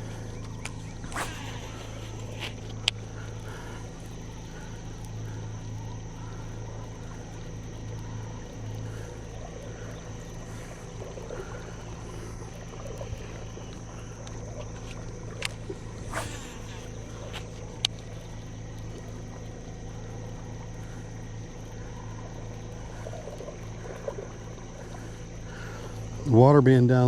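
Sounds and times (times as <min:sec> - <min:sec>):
boat motor humming: 0:00.0 - 0:27.0
thin high whine: 0:00.0 - 0:27.0.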